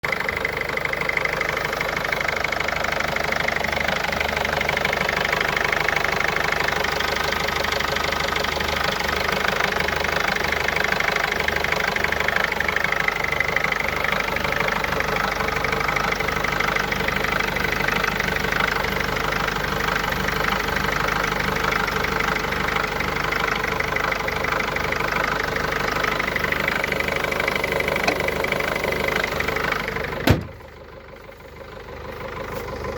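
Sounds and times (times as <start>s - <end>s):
car engine running steadily: 0.0s - 32.9s.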